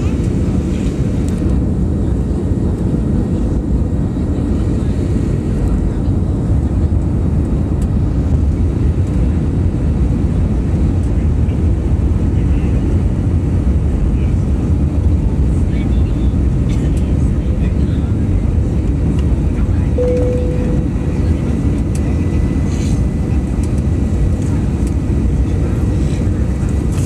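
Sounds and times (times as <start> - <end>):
airliner cabin noise: 0.0 - 27.0.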